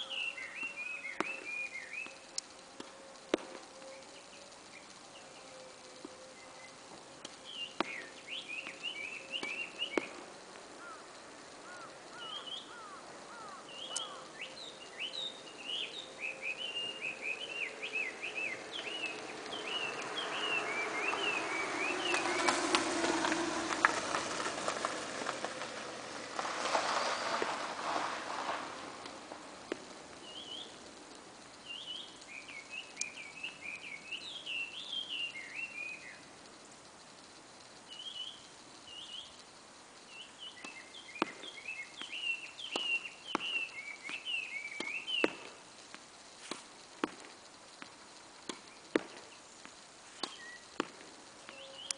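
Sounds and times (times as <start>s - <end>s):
small birds chirping: 0.0s - 25.7s, 29.0s - 51.9s.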